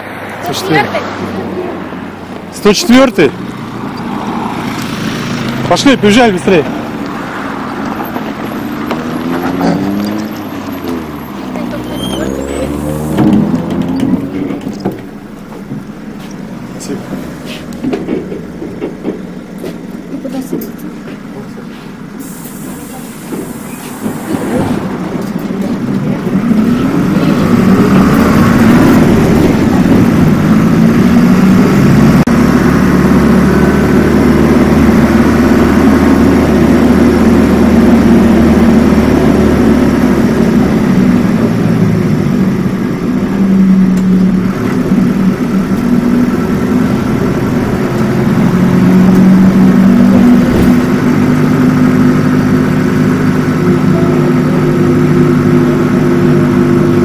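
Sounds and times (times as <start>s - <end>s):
bus engine accelerating: 0.0s - 57.0s.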